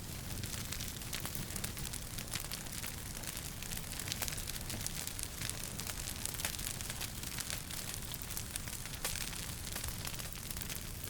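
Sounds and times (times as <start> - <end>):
hiss and rumble of burning: 0.0 - 11.0
wood fire crackling and popping: 0.0 - 11.0.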